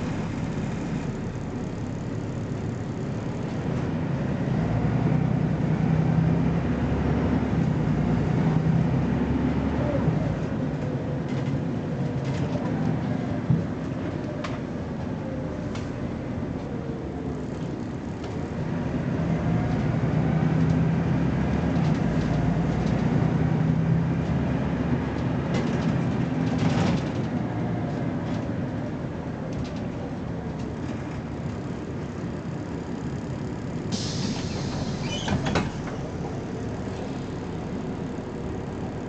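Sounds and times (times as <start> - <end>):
bus diesel engine accelerating: 0.0 - 39.0.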